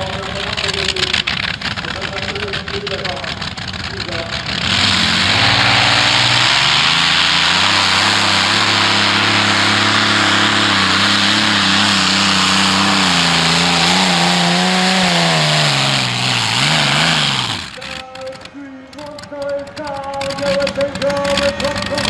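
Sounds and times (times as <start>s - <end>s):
tractor engine at full power: 0.0s - 22.0s.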